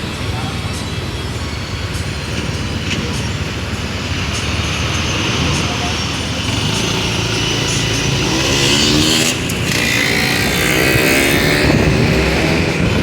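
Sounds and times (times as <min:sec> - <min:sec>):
bus engine revving: 0:00.0 - 0:13.0
loud road noise: 0:00.0 - 0:13.0.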